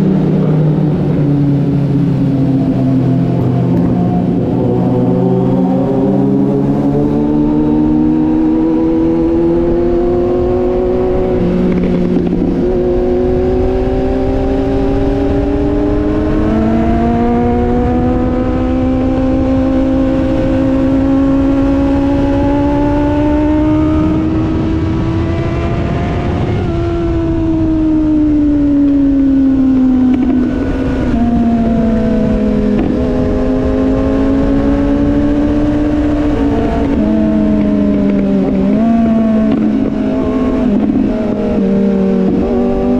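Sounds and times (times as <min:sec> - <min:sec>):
motorcycle engine: 0:00.0 - 0:42.9
wind noise: 0:00.0 - 0:42.9.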